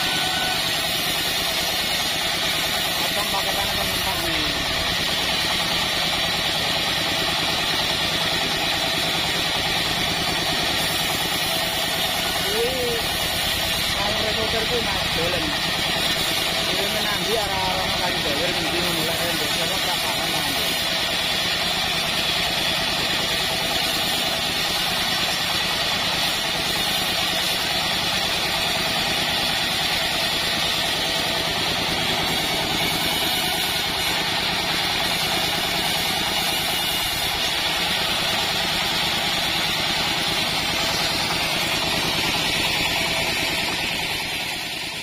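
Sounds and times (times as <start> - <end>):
band saw cutting wood: 0.0 - 45.0.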